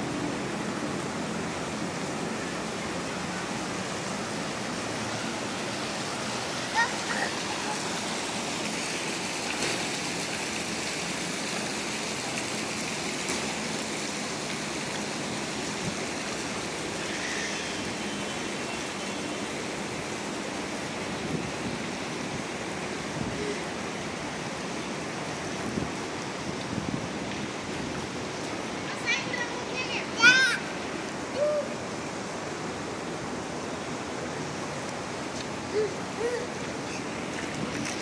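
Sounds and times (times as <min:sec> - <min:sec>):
running water rushing: 0:00.0 - 0:38.0.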